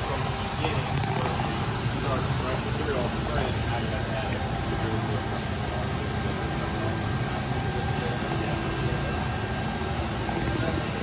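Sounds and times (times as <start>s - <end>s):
machine spindle running: 0.0s - 11.0s.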